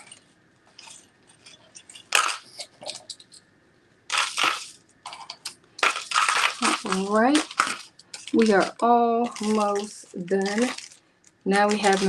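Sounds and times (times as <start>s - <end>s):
items rustling and crinkling: 0.0s - 3.5s, 4.1s - 12.0s.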